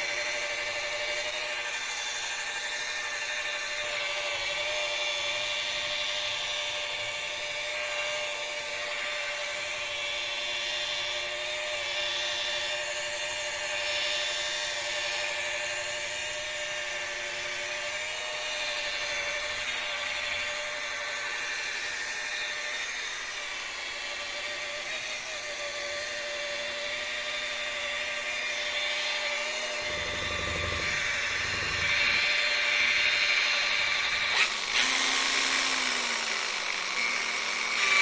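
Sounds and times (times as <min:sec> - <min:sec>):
power tool whining: 0:00.0 - 0:38.0.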